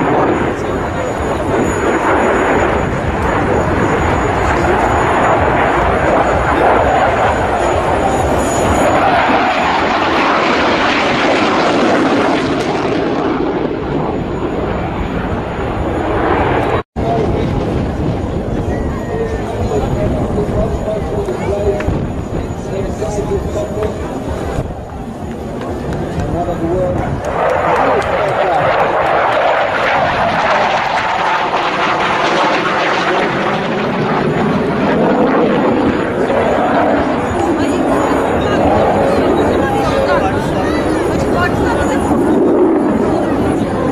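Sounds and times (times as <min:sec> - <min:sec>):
jet engine rush in flight: 0:00.0 - 0:43.9.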